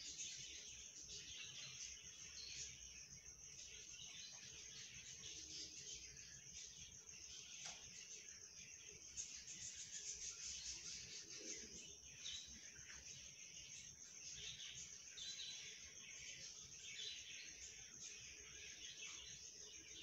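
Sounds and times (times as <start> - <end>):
faint bird chirps: 0.0 - 20.0
high insect trill: 0.0 - 20.0.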